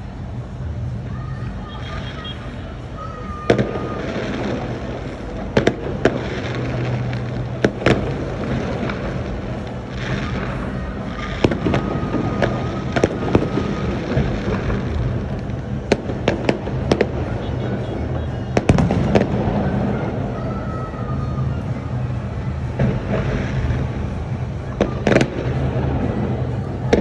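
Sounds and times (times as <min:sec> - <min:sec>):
rumble of distant bursts: 0:00.0 - 0:27.0
fireworks sharp bangs: 0:01.4 - 0:27.0.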